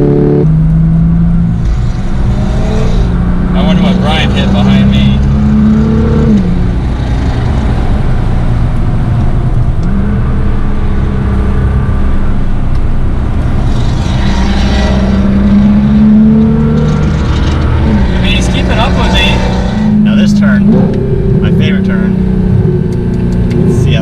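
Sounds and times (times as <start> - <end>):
car engine racing: 0.0 - 24.0.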